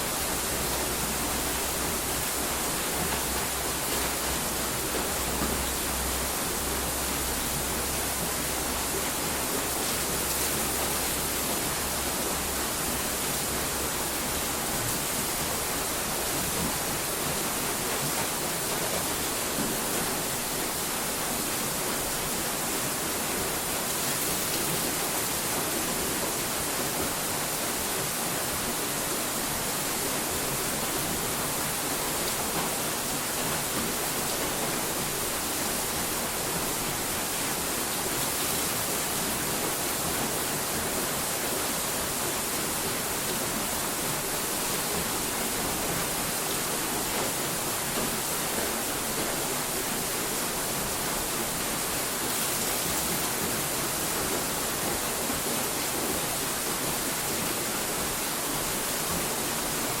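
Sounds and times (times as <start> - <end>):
steady static hiss: 0.0 - 60.0.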